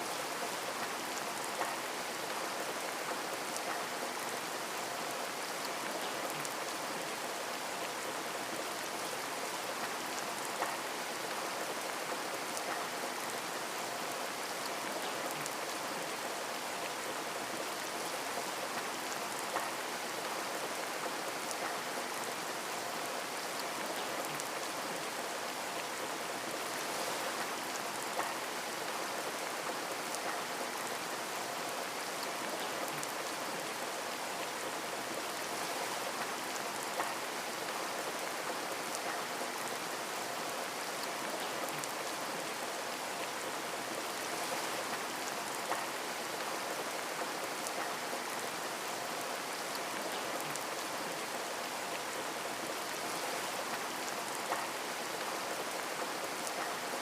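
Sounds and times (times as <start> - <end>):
rain falling on a window: 0.0 - 57.0.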